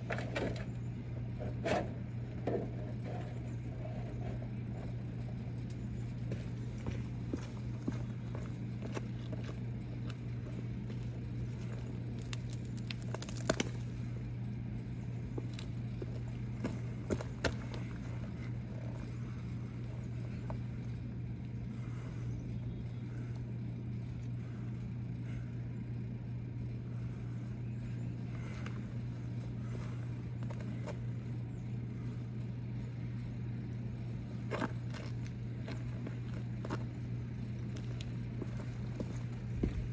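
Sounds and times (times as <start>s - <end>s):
low outdoor hum: 0.0s - 39.9s.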